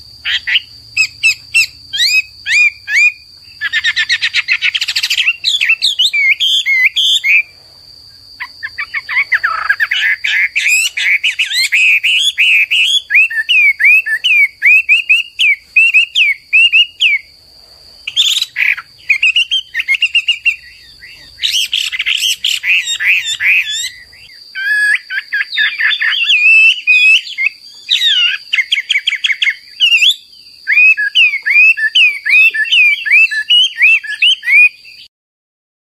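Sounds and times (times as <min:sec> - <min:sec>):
bird singing whistled notes: 0:00.0 - 0:07.5, 0:08.4 - 0:17.4, 0:18.0 - 0:35.1.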